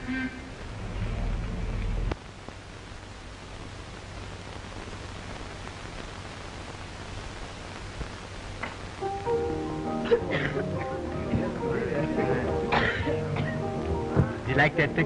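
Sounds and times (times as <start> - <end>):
soundtrack hiss and static: 0.0 - 15.0.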